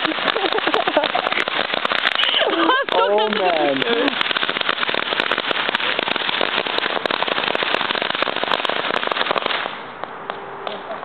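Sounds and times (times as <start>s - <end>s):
firework crackling pops: 0.0s - 10.8s.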